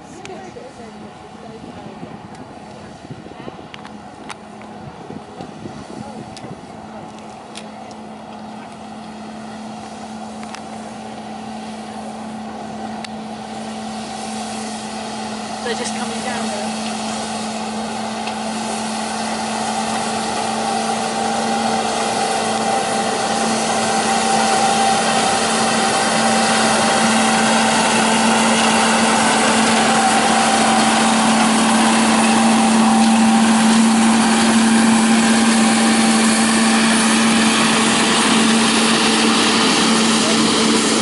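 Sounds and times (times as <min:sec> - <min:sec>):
diesel locomotive running: 0:00.0 - 0:41.0.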